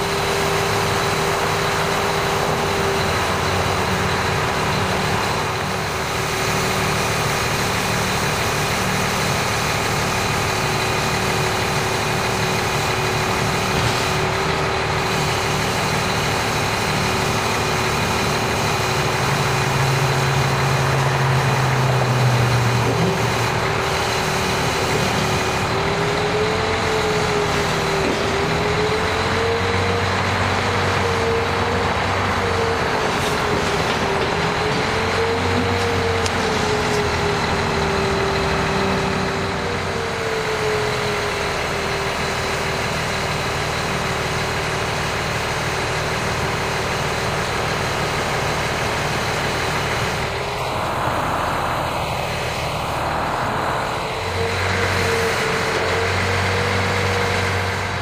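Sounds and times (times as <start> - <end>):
diesel truck engine running: 0.0 - 58.0
hydraulic whine: 0.0 - 58.0.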